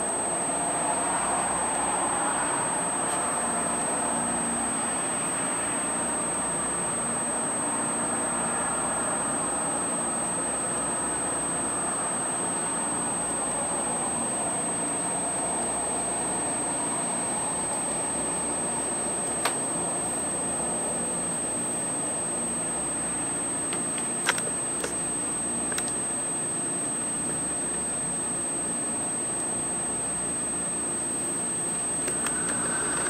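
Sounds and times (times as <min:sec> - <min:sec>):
high-pitched electronic whine: 0:00.0 - 0:33.0.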